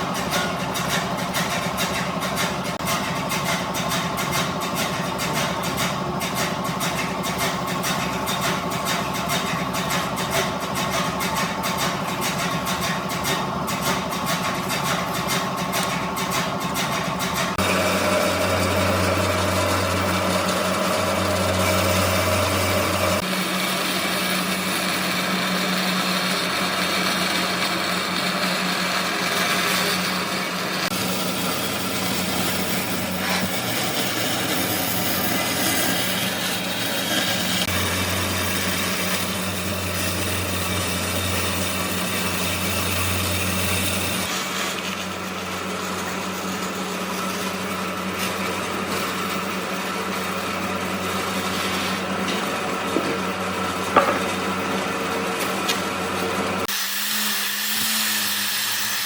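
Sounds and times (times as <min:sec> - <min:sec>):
deeper machine drone: 0:00.0 - 0:56.7
woodworking machine motor hum: 0:00.0 - 0:59.0.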